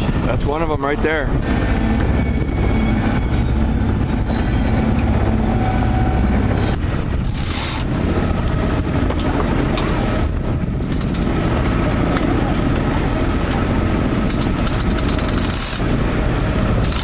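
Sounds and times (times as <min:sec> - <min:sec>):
boat motor drone: 0:00.0 - 0:17.0
wind rumbling on microphone: 0:00.0 - 0:17.0.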